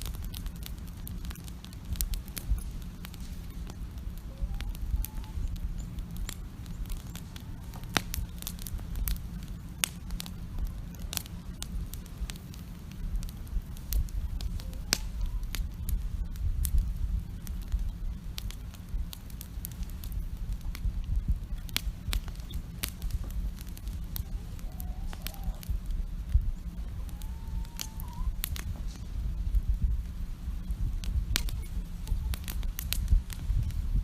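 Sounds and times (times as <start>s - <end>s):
campfire crackling and popping: 0.0s - 34.0s
low rumble of flames: 0.0s - 34.0s.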